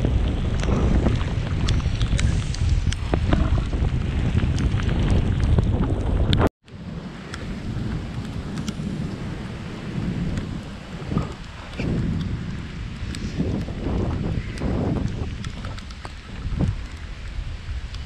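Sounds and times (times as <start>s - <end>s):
raindrop ticks: 0.0s - 18.0s
wind rushing over microphone: 0.0s - 18.0s.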